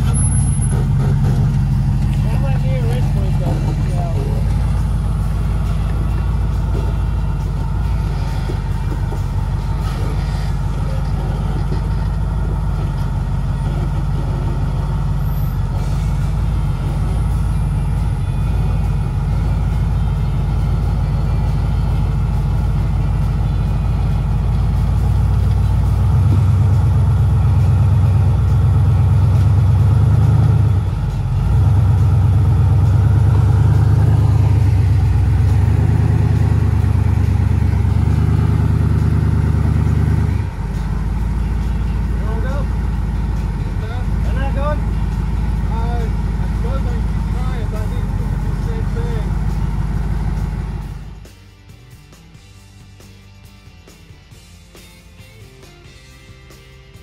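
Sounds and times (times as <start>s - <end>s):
off-road vehicle engine under load: 0.0s - 57.0s.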